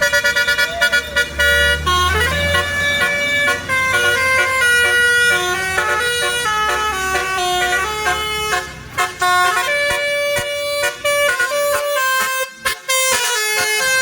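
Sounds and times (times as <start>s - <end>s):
bus engine running low: 0.0s - 14.0s
bus horn playing a melody: 0.0s - 14.0s.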